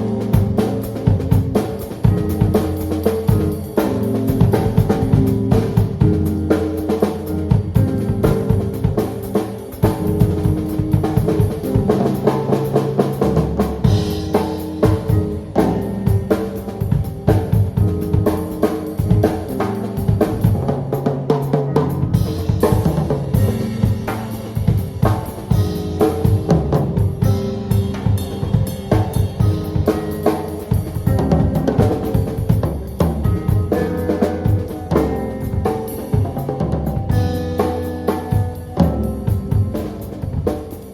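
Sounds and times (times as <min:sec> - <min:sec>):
bass line: 0:00.0 - 0:40.9
chords: 0:00.0 - 0:40.9
drum kit beat: 0:00.0 - 0:40.9.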